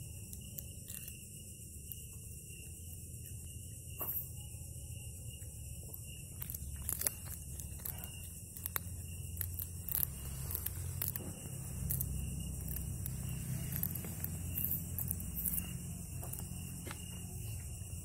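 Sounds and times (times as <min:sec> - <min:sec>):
cat chewing and crunching food: 0:00.0 - 0:18.0
steady low hum: 0:00.0 - 0:18.0.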